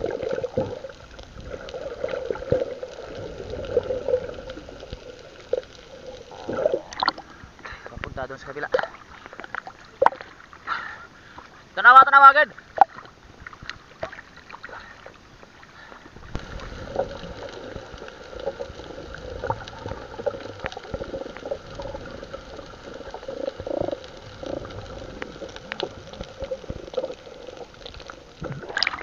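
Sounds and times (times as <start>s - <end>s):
small clicks and splashes: 0.0s - 7.9s, 8.6s - 11.6s, 12.7s - 29.0s
water bubbling and gurgling: 0.0s - 11.0s, 12.6s - 29.0s.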